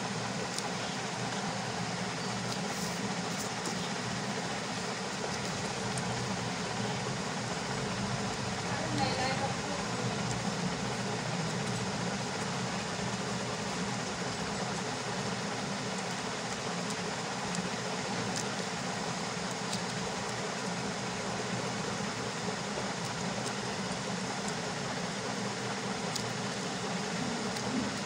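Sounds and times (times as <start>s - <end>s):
background hum and hiss: 0.0s - 28.0s.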